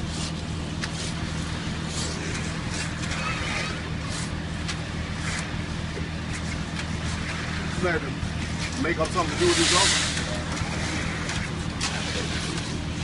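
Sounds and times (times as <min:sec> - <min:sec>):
rakes and shovels scraping concrete: 0:00.0 - 0:05.7, 0:06.3 - 0:13.0
truck engine running: 0:00.0 - 0:13.0.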